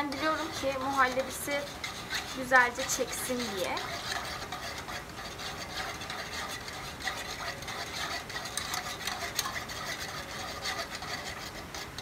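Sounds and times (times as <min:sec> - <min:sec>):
whisk scraping a pot: 0:00.0 - 0:12.0.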